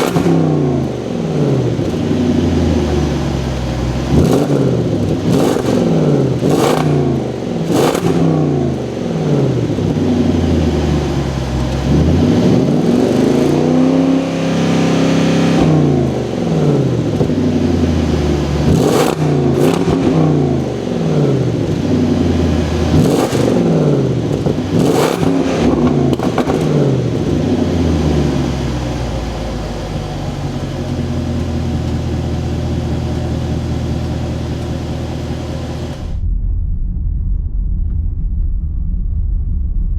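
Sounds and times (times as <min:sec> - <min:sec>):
car engine accelerating through gears: 0:00.0 - 0:36.2
sharp exhaust cracks: 0:00.0 - 0:36.2.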